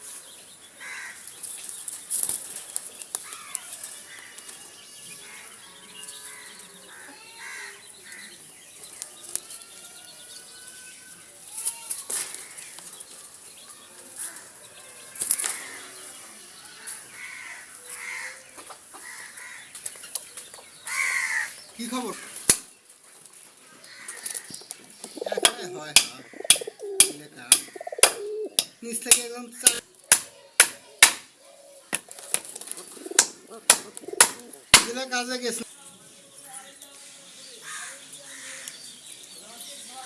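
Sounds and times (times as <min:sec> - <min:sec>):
bird calls: 0:00.0 - 0:22.9, 0:23.8 - 0:29.8, 0:31.4 - 0:34.8.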